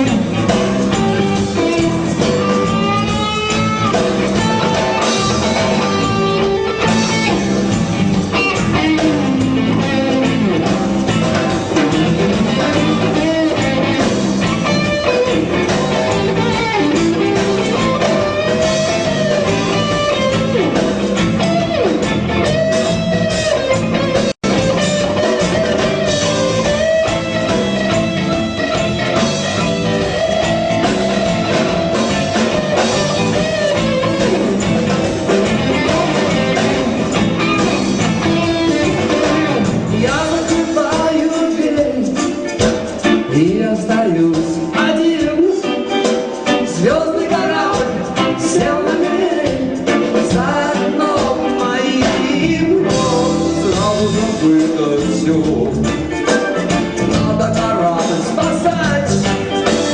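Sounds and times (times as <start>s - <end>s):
bass and drums: 0.0s - 59.9s
electric guitar lead line: 0.0s - 59.9s.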